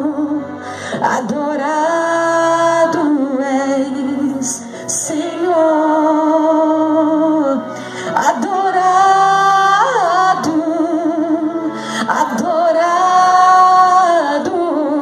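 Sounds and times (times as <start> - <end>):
woman singing a hymn: 0.0 - 15.0.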